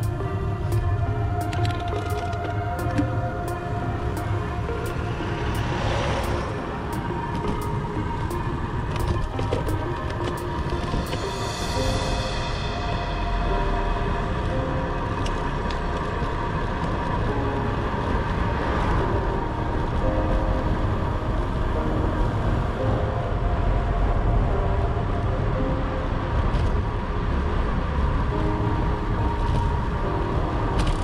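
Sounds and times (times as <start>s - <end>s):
soft background music: 0.0s - 31.0s
wind and road noise rumble: 0.0s - 31.0s.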